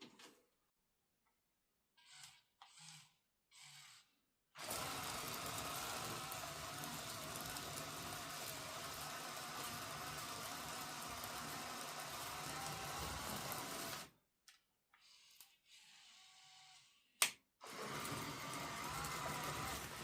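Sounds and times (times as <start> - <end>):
small electric motors whirring: 2.0 - 14.1, 15.0 - 20.0.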